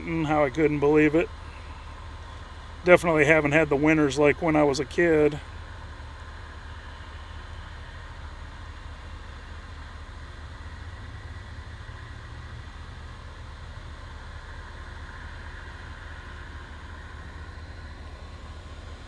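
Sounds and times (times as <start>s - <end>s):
faint hiss: 0.0s - 19.0s
low engine hum: 0.0s - 19.0s.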